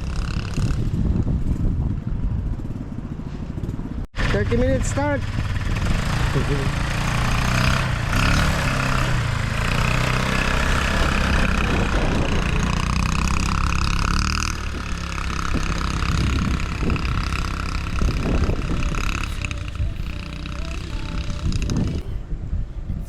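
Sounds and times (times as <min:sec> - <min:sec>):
atv engine running: 0:00.0 - 0:22.2.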